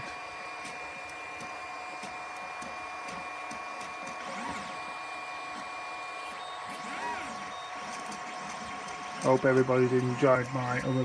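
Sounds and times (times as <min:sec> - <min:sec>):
fans humming: 0:00.0 - 0:11.0
stepper motors whining: 0:00.0 - 0:11.0.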